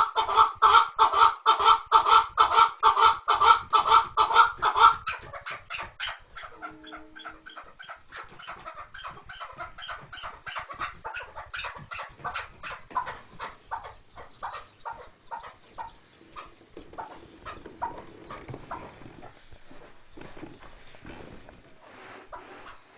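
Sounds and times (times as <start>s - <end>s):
partridge clucking calls: 0.0s - 21.0s.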